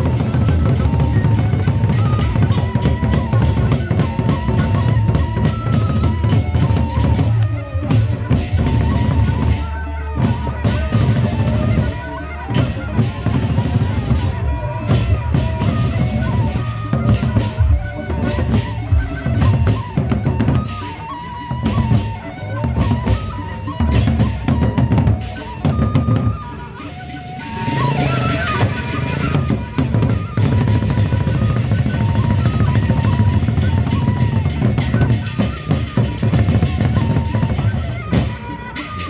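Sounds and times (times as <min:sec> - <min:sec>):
barrel drums beating: 0:00.0 - 0:39.0.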